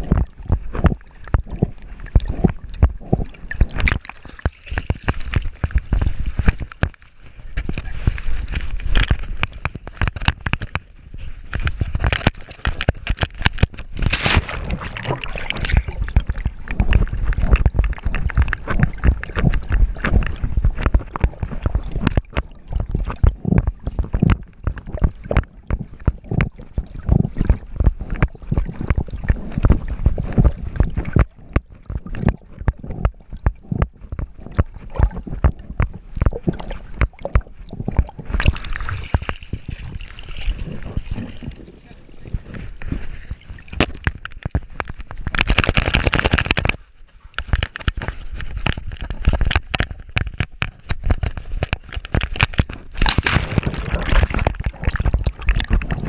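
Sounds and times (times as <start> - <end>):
water sloshing and gurgling: 0.0 - 56.0.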